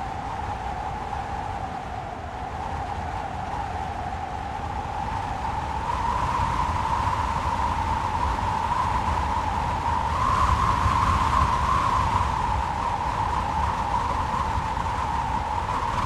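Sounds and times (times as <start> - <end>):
strong wind howling: 0.0 - 16.0.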